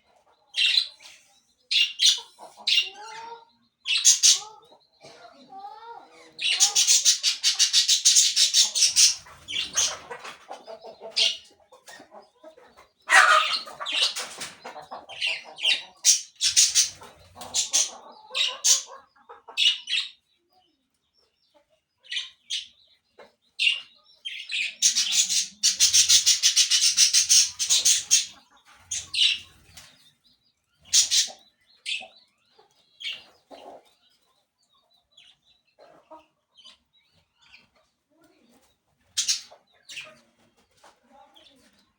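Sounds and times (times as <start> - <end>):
birds chattering: 0.0 - 41.9.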